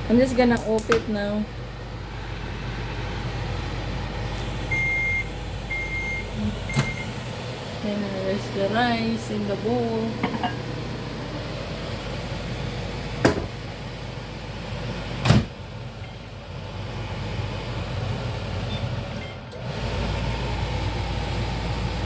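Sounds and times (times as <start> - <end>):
steady low hum: 0.0 - 18.7.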